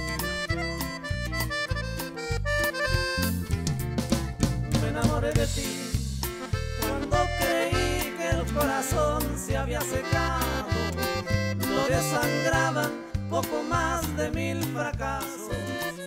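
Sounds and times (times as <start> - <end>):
accordion band music: 0.0 - 16.0
bouncing bass line: 0.0 - 16.0
drum kit: 0.0 - 16.0.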